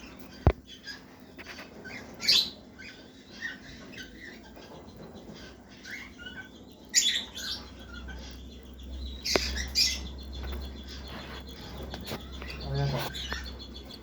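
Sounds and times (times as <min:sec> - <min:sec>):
chicks squeaking raspily: 0:00.0 - 0:14.0.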